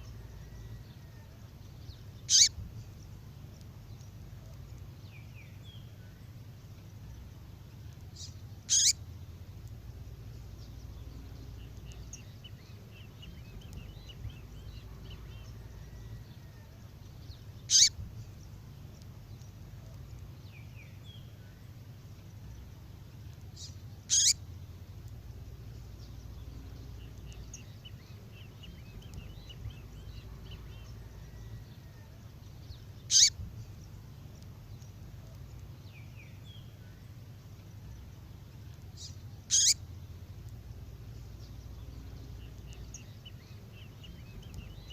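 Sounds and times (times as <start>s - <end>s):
faint bird twittering: 0.0s - 44.9s
songbird calls: 0.0s - 44.9s.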